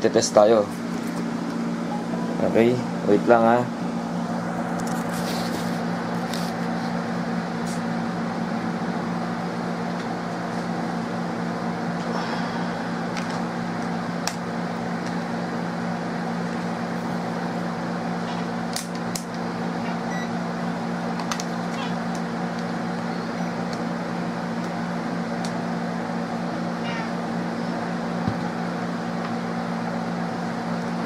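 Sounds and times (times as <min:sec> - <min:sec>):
motor humming: 0:00.7 - 0:31.0.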